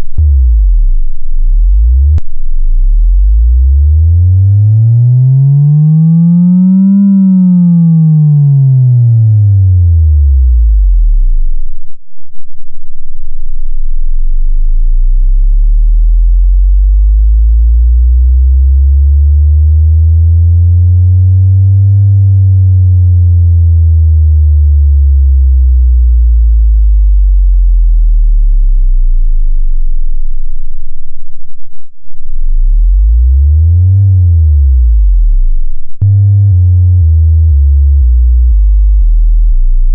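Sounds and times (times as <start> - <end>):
deep bass sine tone sweeps: 0.0 - 39.9.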